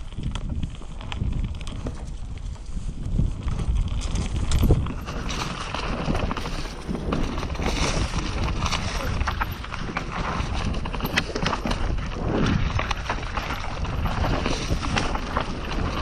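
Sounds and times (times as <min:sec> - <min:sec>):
bike clattering over bumps: 0:00.0 - 0:16.0
bike tyres rumbling on dirt: 0:00.0 - 0:16.0
wind on microphone: 0:00.0 - 0:16.0.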